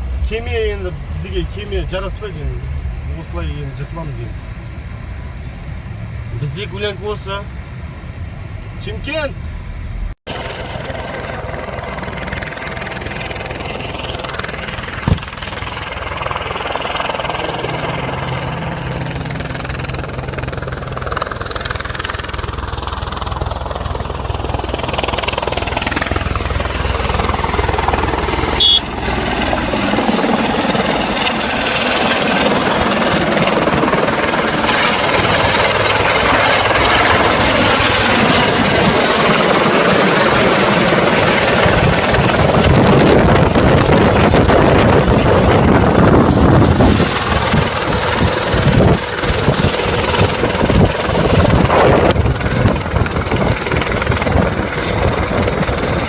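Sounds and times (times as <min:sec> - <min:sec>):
helicopter rotor whir: 0:00.0 - 0:56.0.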